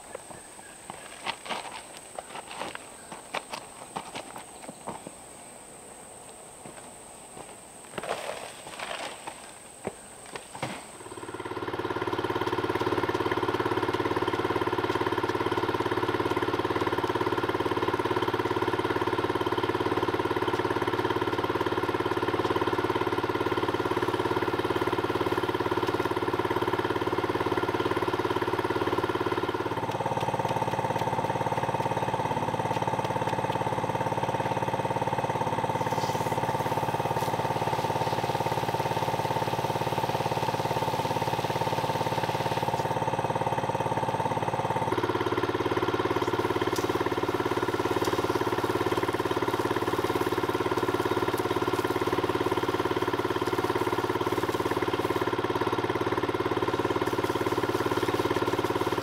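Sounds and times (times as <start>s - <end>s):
small engine running: 0.0s - 5.1s, 7.9s - 59.0s.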